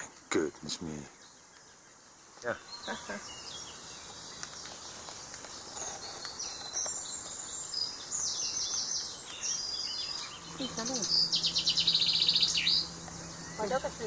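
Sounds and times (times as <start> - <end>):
songbirds chirping and trilling: 0.0 - 14.0.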